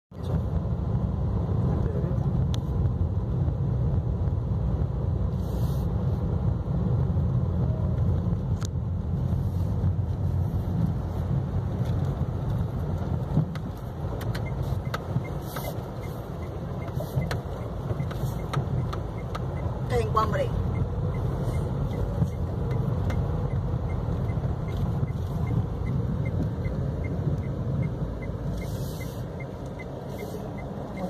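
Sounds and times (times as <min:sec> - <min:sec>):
car driving rumble inside cabin: 0:00.1 - 0:31.0.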